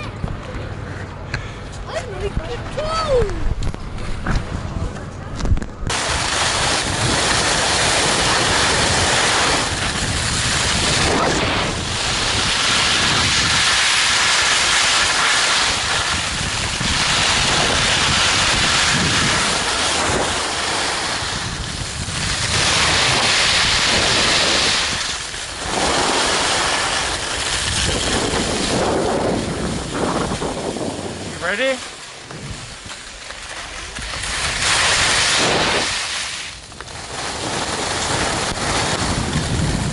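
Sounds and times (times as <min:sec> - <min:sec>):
wind rushing over microphone: 0:02.2 - 0:39.9
skis hissing over snow: 0:05.9 - 0:39.9.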